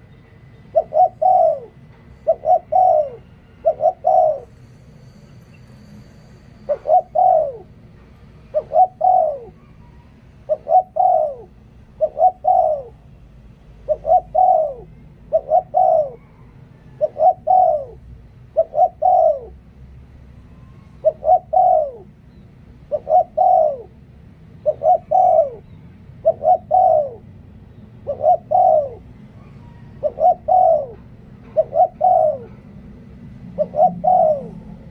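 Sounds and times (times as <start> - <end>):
dove cooing: 0.7 - 4.8, 6.6 - 13.1, 13.8 - 19.8, 20.6 - 34.9.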